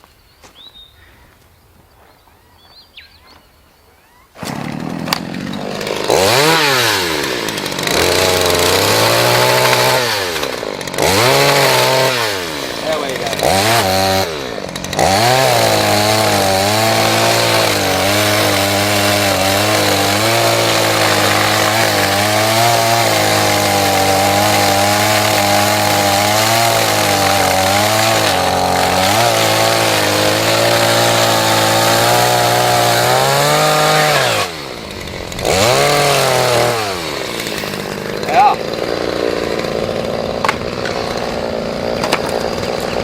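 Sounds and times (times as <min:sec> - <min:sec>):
chainsaw cutting wood: 0:04.4 - 0:43.0.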